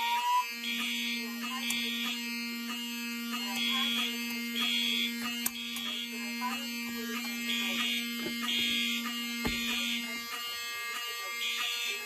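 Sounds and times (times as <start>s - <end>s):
alarm horn blasts in threes: 0.0s - 12.0s
steady buzzy alarm horn: 0.0s - 12.0s.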